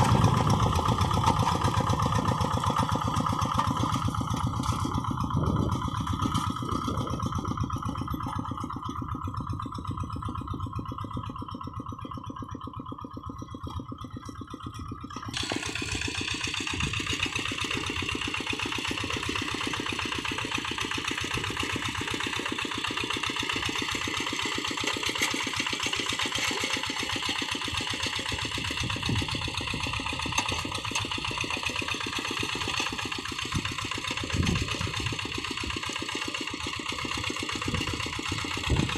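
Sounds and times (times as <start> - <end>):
diesel hand tractor engine running: 0.0 - 38.9.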